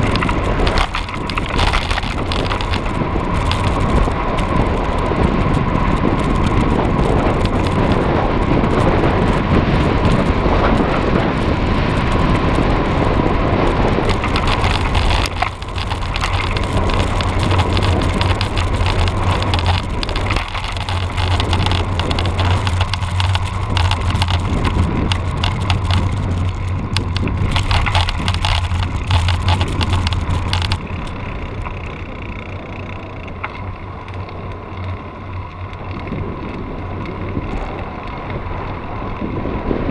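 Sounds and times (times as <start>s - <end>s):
bike rattling: 0.0s - 39.9s
tyre and road rumble: 0.0s - 39.9s
wind rush on microphone: 0.0s - 39.9s.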